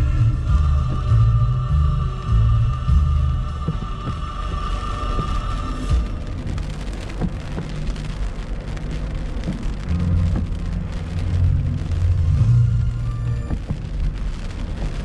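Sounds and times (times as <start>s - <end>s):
low rumble: 0.0s - 15.0s
rain on car windshield: 0.0s - 15.0s.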